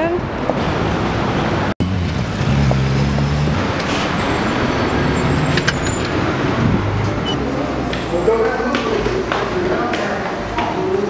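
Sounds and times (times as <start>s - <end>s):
vehicle engines and road noise: 0.0s - 11.0s.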